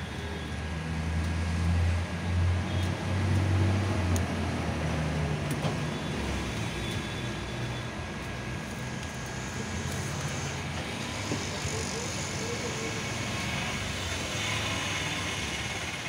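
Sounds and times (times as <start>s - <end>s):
street traffic noise: 0.0s - 16.0s
vehicle engine rumble: 0.0s - 16.0s.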